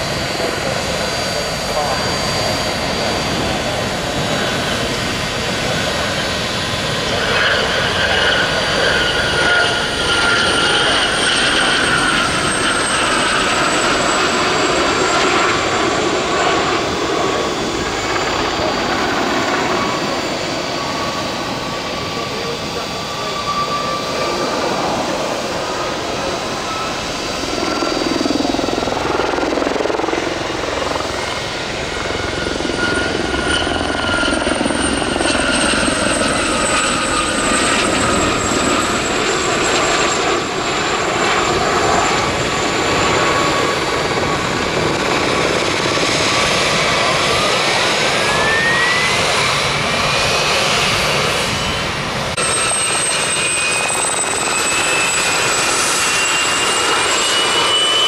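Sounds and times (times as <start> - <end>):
helicopter engines whining: 0.0 - 58.0
helicopter rotor rush: 0.0 - 58.0.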